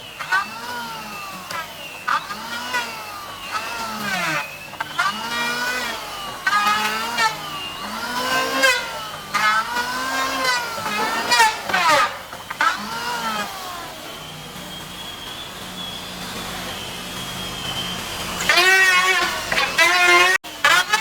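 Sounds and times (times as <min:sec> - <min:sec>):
motor-driven tool: 0:00.0 - 0:21.0.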